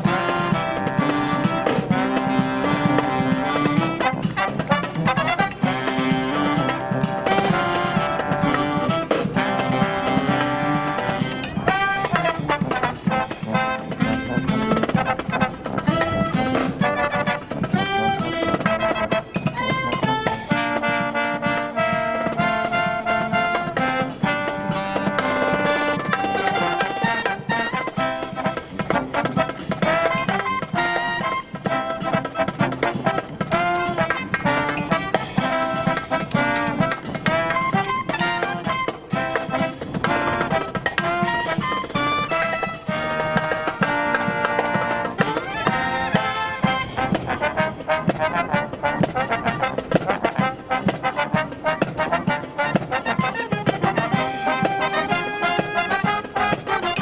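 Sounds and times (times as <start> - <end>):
brass marching band playing: 0.0 - 57.0.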